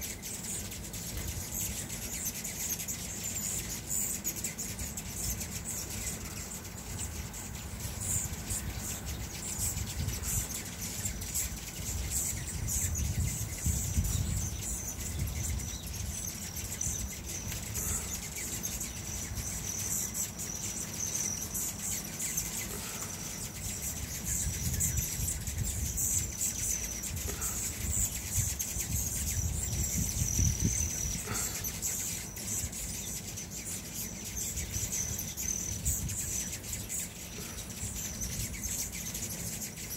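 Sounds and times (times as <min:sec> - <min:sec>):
hummingbirds chittering: 0:00.0 - 0:39.9.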